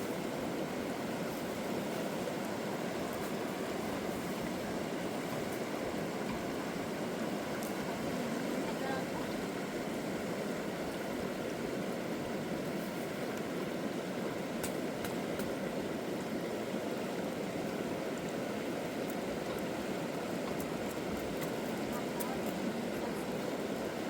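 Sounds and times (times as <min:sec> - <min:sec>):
river water running: 0:00.0 - 0:24.0.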